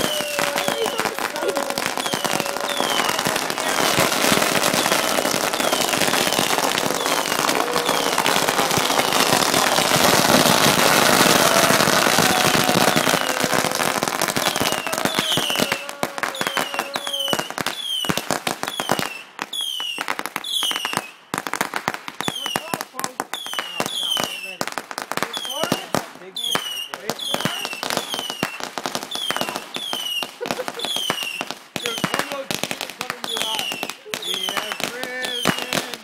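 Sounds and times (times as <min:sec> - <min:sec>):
firecrackers popping rapidly: 0:00.0 - 0:36.0.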